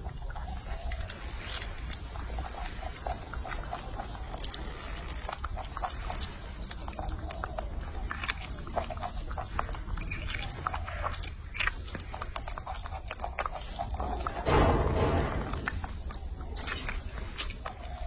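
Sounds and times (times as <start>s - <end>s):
monkey chewing wet clicks: 0.0s - 18.0s.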